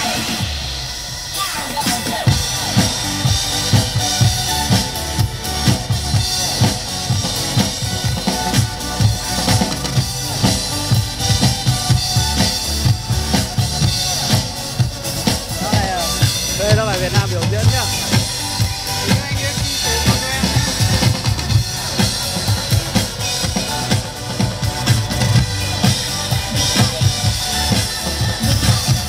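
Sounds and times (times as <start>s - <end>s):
dance music over speakers: 0.0s - 29.0s
kick and snare drum beat: 1.8s - 29.0s.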